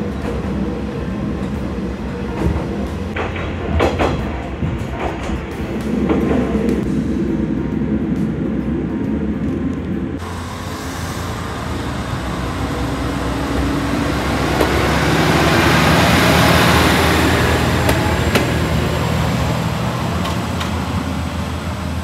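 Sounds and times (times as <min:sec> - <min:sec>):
diesel railcar engine drone: 0:00.0 - 0:22.0.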